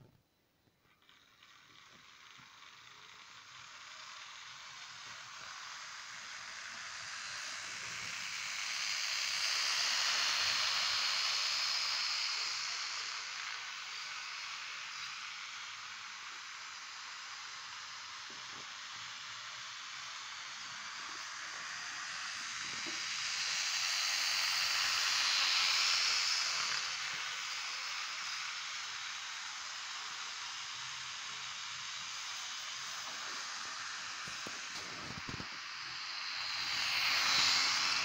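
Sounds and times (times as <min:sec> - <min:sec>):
model train running on track: 0:00.9 - 0:38.0.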